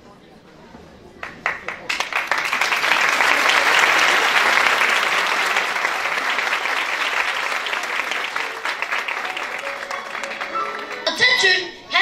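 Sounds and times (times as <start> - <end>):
audience applauding: 1.2 - 11.2.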